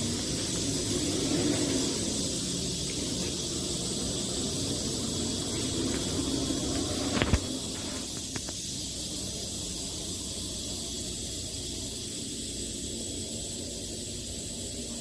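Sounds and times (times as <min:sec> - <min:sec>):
background hiss: 0:00.0 - 0:15.0
low hum: 0:00.0 - 0:15.0.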